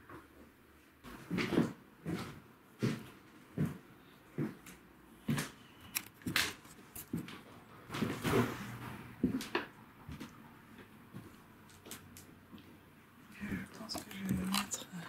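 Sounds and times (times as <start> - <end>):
footsteps walking across room: 0.0 - 14.4.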